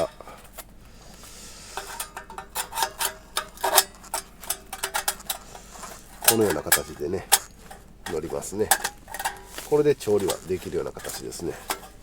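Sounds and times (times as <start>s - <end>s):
light metal parts clinking: 0.0s - 12.0s.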